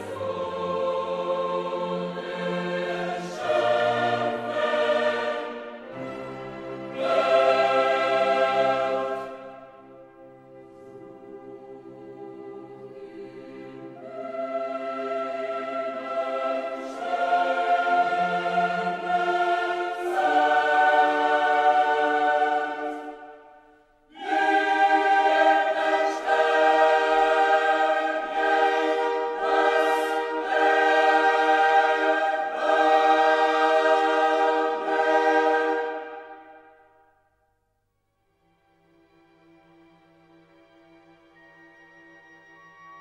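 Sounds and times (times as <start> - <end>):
choir singing slow chords: 0.0 - 37.6.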